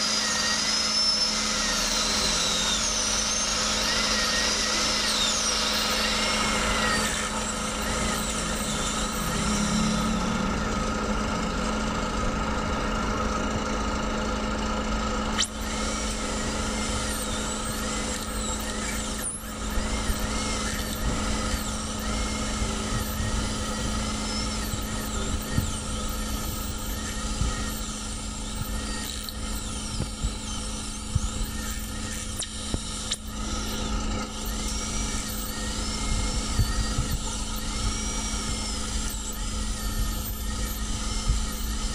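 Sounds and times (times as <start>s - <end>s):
dental drill whine: 0.0s - 41.9s.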